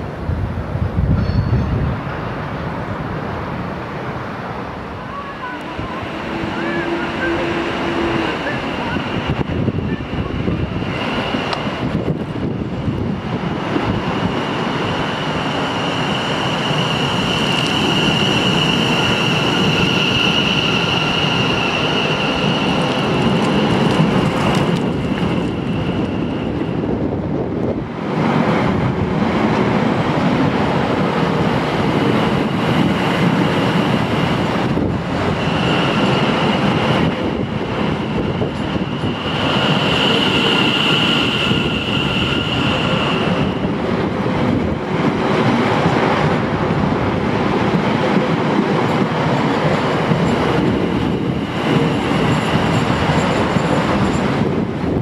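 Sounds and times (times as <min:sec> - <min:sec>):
electric train passing: 0:00.0 - 0:55.0.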